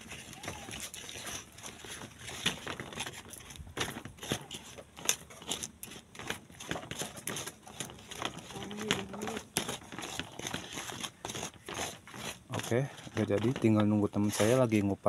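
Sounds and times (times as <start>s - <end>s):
stone pestle scraping in mortar: 0.0s - 15.0s.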